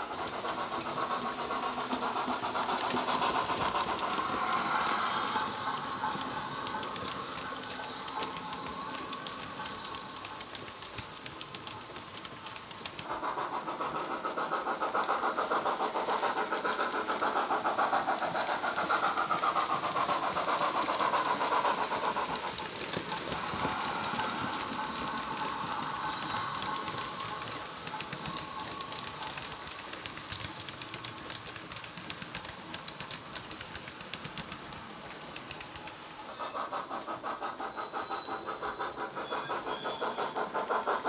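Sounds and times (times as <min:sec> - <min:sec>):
model steam locomotive chuffing: 0:00.0 - 0:41.0.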